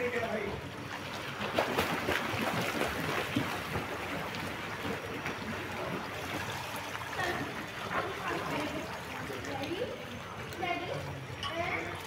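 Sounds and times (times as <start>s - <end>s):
pool water splashing and lapping: 0.0s - 12.0s.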